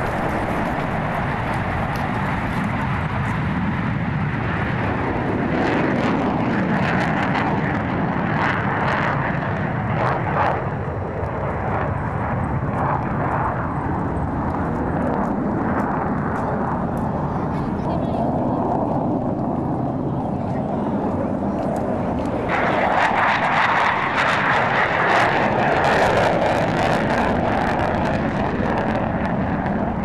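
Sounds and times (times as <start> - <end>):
jet fighters roaring past: 0.0 - 30.0.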